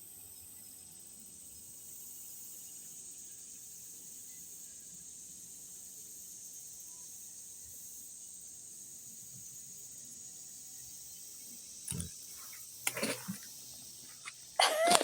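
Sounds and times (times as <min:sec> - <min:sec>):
cicadas buzzing in chorus: 0:00.0 - 0:15.0.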